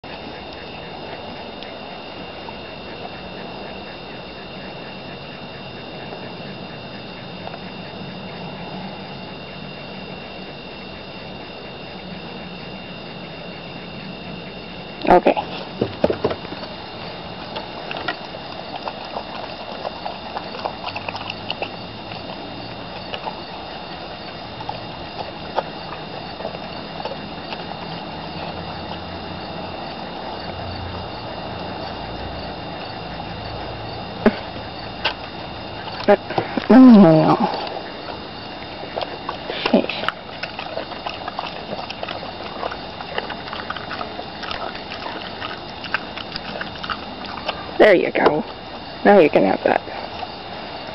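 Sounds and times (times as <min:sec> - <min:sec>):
dog licking and chewing meat: 0:00.0 - 0:50.9.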